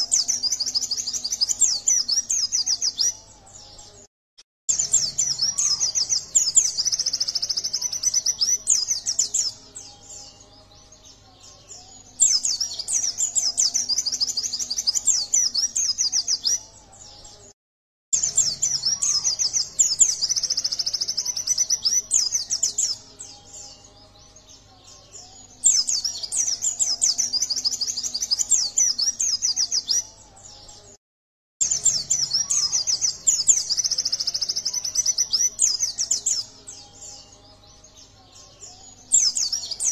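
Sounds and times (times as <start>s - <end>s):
bird twittering song: 0.0s - 4.1s, 4.7s - 17.5s, 18.2s - 31.0s, 31.6s - 39.9s.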